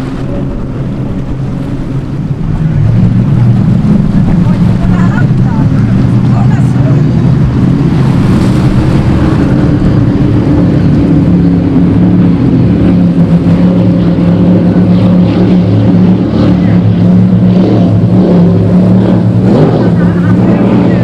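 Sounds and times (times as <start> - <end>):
powerboat engine drone: 0.0 - 21.0
rush of wind and spray: 0.0 - 21.0.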